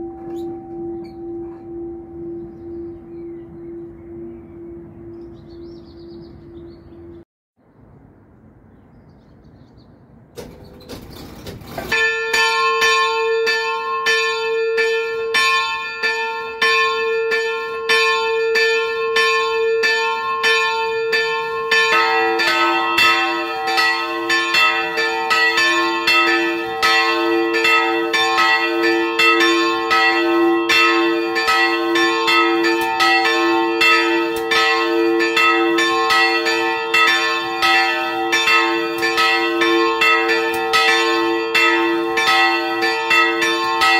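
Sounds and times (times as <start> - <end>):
higher church bell ringing: 0.0 - 7.2, 11.9 - 43.9
lower church bell ringing: 0.0 - 7.2, 11.9 - 43.9.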